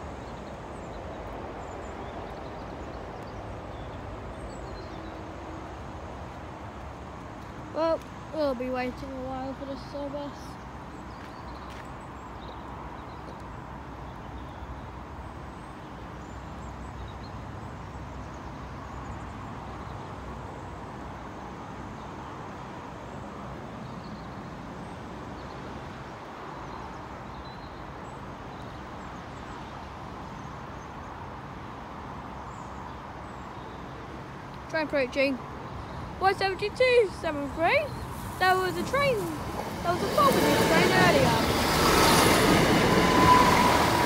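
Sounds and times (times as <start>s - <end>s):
distant road traffic hum: 0.0s - 44.0s.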